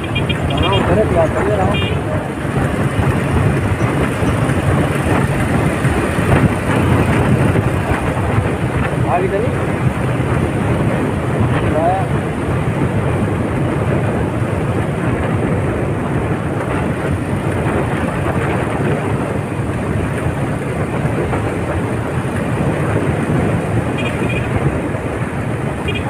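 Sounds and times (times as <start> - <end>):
vehicle road noise: 0.0 - 26.0
wind on microphone: 0.0 - 26.0.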